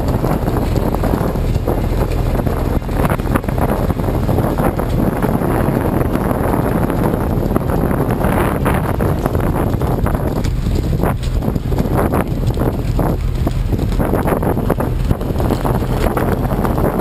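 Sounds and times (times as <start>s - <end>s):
boat engine low rumble: 0.0s - 17.0s
rushing water: 0.0s - 17.0s
wind buffeting microphone: 0.0s - 17.0s.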